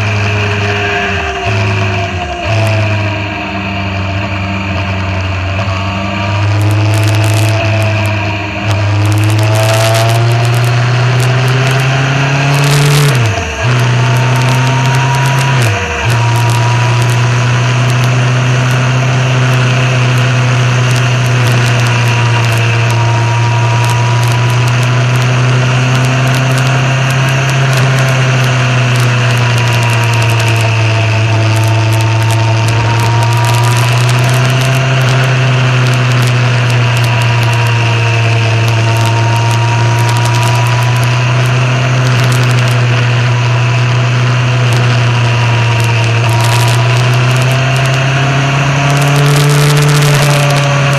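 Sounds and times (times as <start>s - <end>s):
motorcycle engine cruising: 0.0s - 50.9s
wind noise on microphone: 5.2s - 50.9s.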